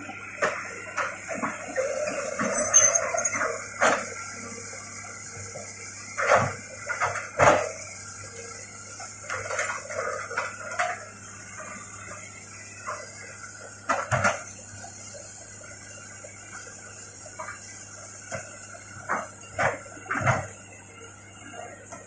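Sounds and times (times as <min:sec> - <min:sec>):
excavator engine hum: 0:00.0 - 0:22.0.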